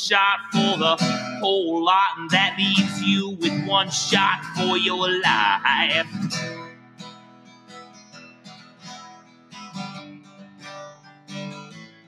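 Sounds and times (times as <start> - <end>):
acoustic guitar strumming and picking: 0.0 - 12.0.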